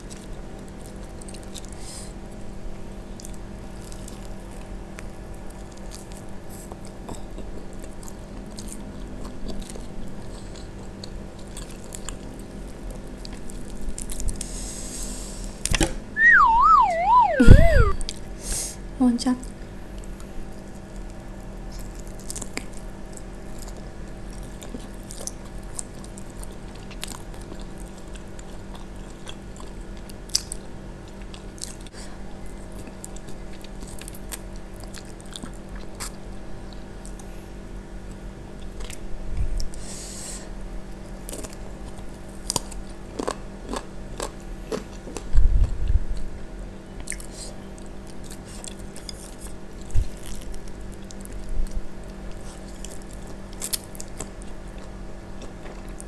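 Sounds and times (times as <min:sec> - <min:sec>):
chewing chicken: 0:00.0 - 0:15.4, 0:19.4 - 0:56.0
faint steady hum: 0:00.0 - 0:56.0.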